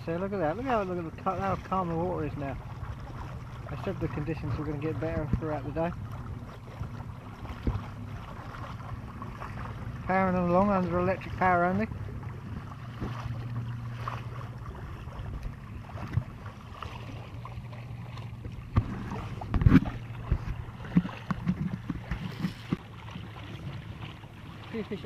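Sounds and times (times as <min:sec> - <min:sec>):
rushing water: 0:00.0 - 0:25.0
wind: 0:00.0 - 0:25.0.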